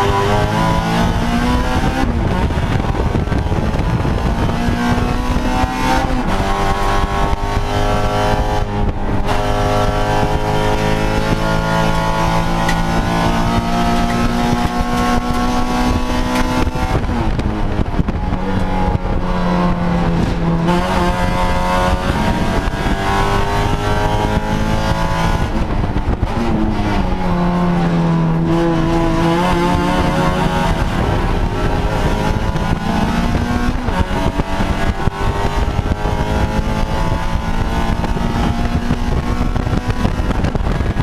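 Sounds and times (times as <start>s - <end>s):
race car engine accelerating: 0.0s - 41.0s.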